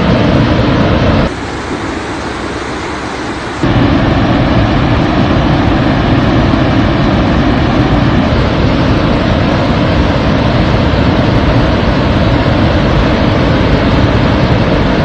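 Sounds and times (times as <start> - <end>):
floodwater roaring through spillway: 0.0 - 15.0.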